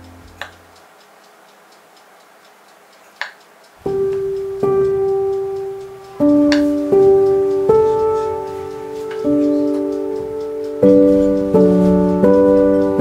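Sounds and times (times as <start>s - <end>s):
faint steady ticking: 0.0s - 13.0s
sharp click: 0.0s - 13.0s
sustained keyboard notes: 0.0s - 13.0s.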